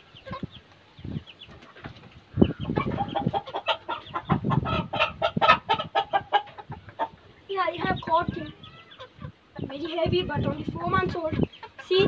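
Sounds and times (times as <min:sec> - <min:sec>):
chickens clucking agitated: 0:00.0 - 0:12.0.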